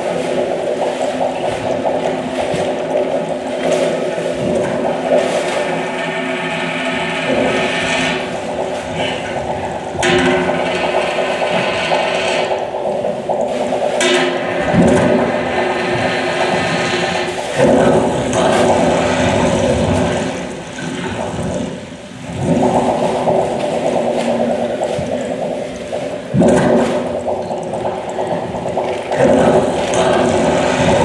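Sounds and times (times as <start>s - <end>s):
low steady drone: 0.0s - 31.0s
rushing water-like noise: 0.0s - 31.0s.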